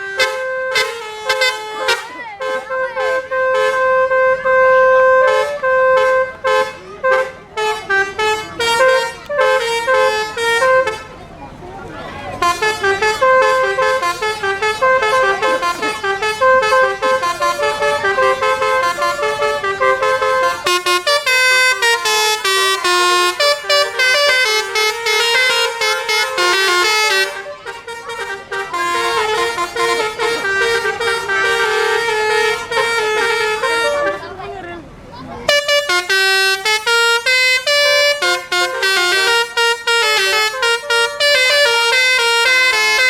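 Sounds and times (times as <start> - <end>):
bus air horn playing tune: 0.0 - 43.0.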